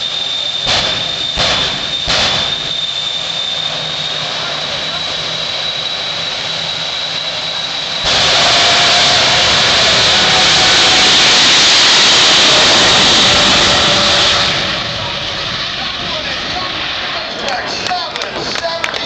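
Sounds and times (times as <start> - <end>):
jet engine roaring with afterburner: 0.0 - 19.0
jet engine whine: 0.0 - 19.0.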